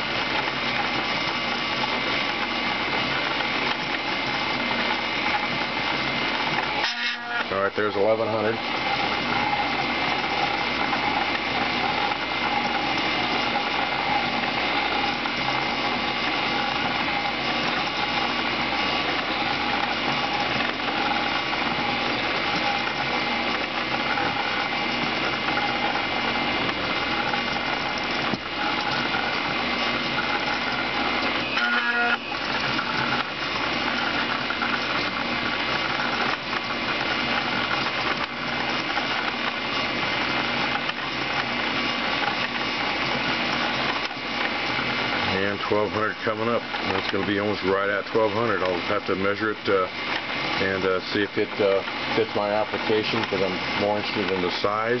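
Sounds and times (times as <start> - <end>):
coil winder motors whining: 0.0 - 55.0.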